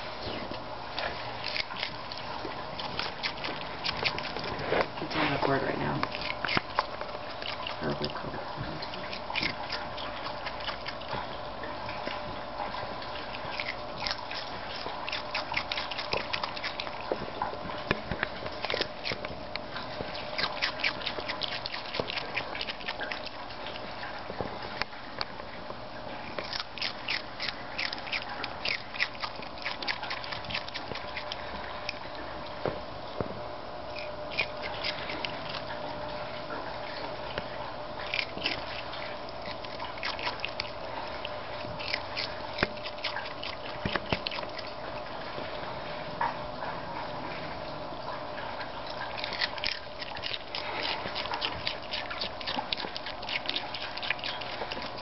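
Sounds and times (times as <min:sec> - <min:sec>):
lemur crunching pepper: 0:00.0 - 0:25.3, 0:26.1 - 0:32.8, 0:33.9 - 0:45.4, 0:48.8 - 0:55.0.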